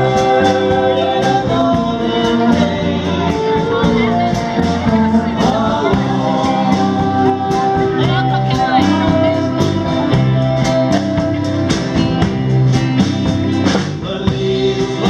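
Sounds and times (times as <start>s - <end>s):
person singing: 0.0s - 11.7s, 13.5s - 15.0s
live rock band playing: 0.0s - 15.0s
steady cymbal beat: 0.0s - 15.0s.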